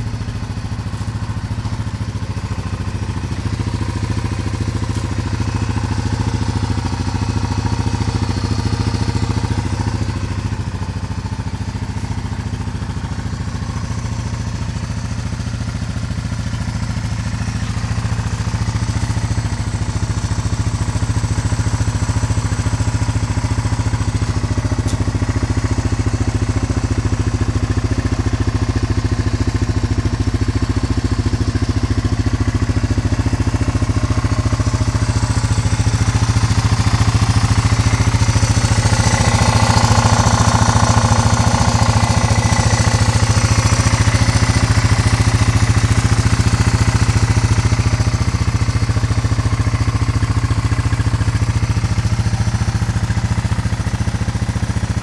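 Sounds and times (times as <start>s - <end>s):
quad engine idling: 0.0s - 55.0s.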